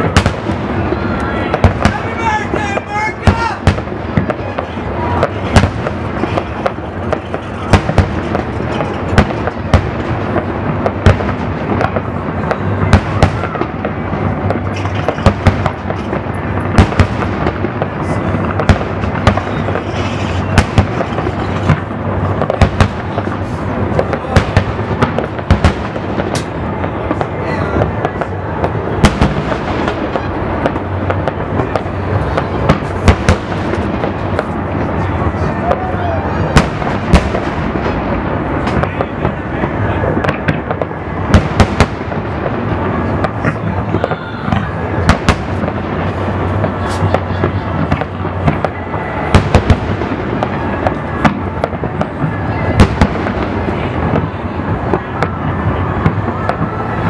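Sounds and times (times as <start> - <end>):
continuous fireworks rumble: 0.0 - 57.0
fireworks bursting bangs: 0.0 - 57.0.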